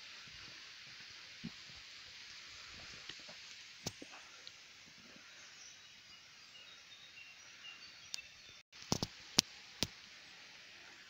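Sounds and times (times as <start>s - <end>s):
steady forest hiss: 0.0s - 11.0s.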